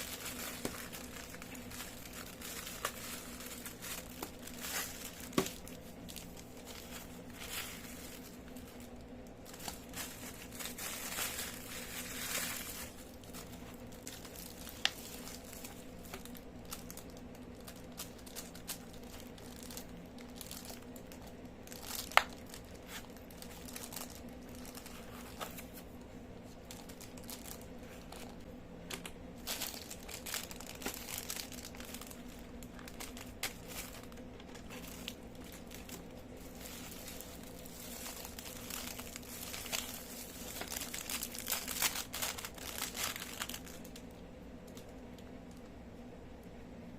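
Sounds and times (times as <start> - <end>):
plastic packaging crinkling: 0.0 - 45.7.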